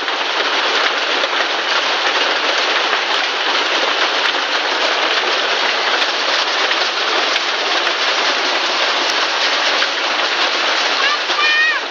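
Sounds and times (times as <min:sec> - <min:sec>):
heavy rain and hail falling: 0:00.0 - 0:11.9.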